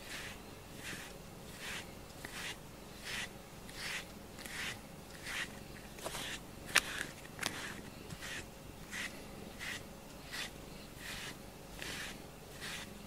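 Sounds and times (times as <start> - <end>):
brush swishing through fur: 0.0 - 13.0.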